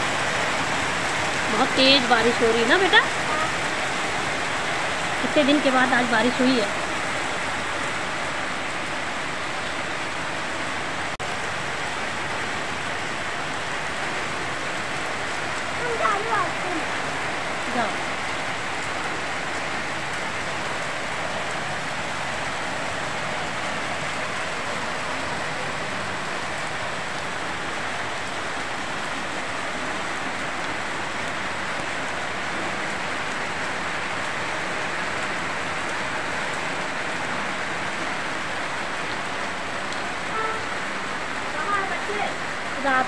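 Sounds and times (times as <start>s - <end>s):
heavy rain on wet ground: 0.0s - 43.0s.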